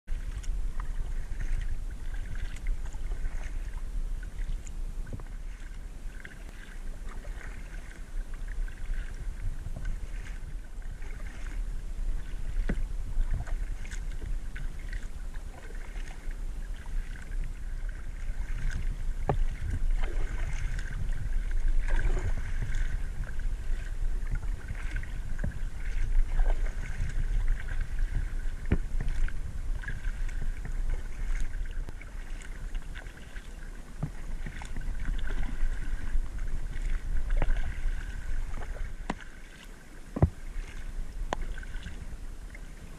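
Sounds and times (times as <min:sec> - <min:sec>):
constant low rumble: 0:00.0 - 0:42.9
paddle strokes splashing water: 0:00.1 - 0:42.9.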